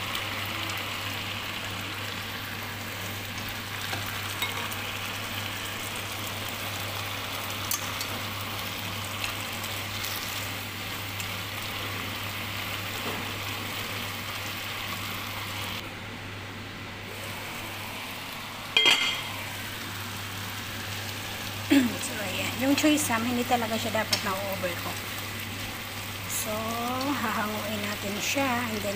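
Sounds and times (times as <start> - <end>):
noodles sizzling in a pan: 0.0 - 15.8, 17.0 - 28.9.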